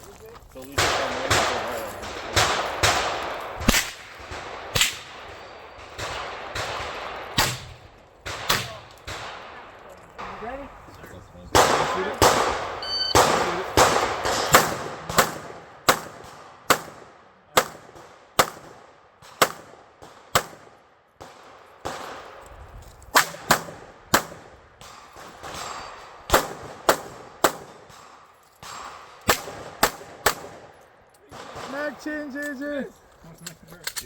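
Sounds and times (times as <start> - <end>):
gunshots with echo: 0.8 - 10.9, 11.5 - 22.3, 23.1 - 30.7, 31.3 - 32.4.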